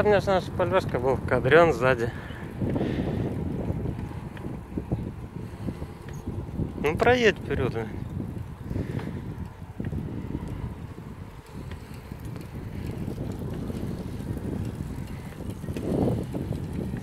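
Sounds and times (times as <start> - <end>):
bike ticks and rattles: 0.0 - 17.0
tyres rolling on asphalt: 0.0 - 17.0
wind buffeting microphone: 0.0 - 17.0.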